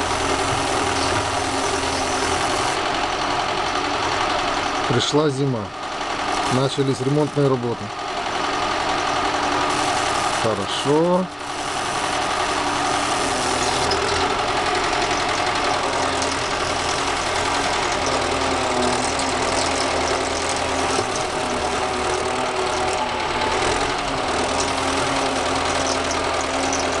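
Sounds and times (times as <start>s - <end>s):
machinery engine running: 0.0s - 27.0s.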